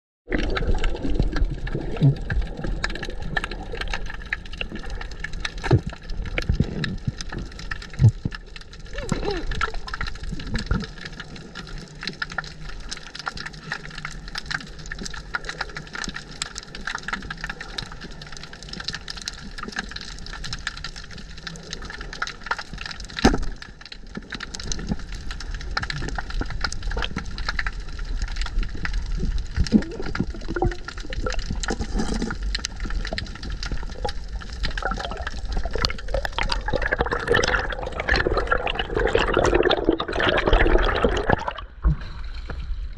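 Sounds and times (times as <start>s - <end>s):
underwater crackle of clicks: 0.3s - 42.6s
water rushing and bubbling: 0.3s - 42.9s.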